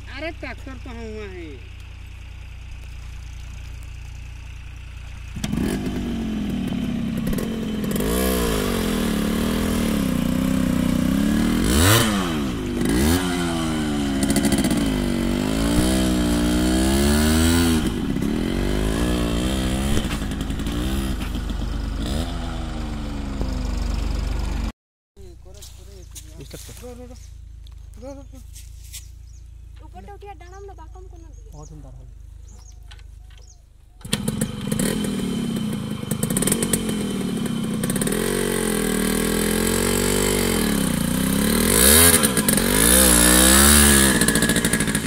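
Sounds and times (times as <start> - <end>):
motorcycle engine revving: 0.0 - 24.7, 25.4 - 45.0.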